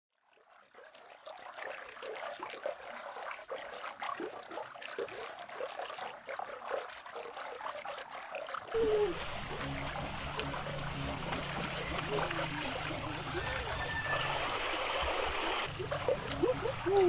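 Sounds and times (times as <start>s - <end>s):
stream babbling over stones: 0.6s - 17.0s.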